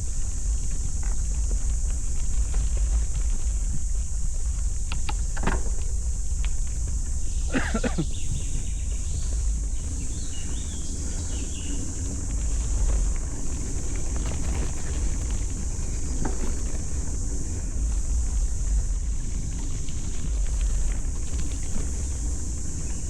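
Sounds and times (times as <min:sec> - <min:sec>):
bicycle rolling noise: 0:00.0 - 0:23.0
wind buffeting microphone: 0:00.0 - 0:23.0.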